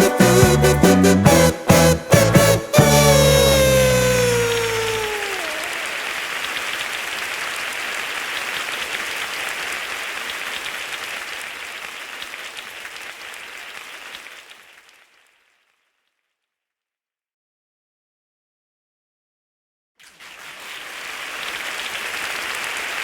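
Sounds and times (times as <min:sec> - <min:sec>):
crowd clapping: 0:00.0 - 0:15.6, 0:20.0 - 0:23.0.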